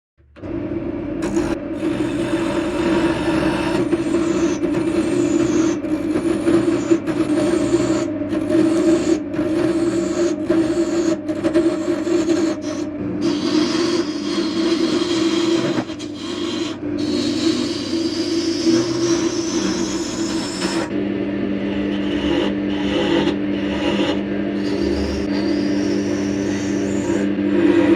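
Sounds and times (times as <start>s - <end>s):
tool scraping turning wood: 1.2s - 21.0s, 21.7s - 27.3s
wood lathe humming: 1.2s - 27.9s.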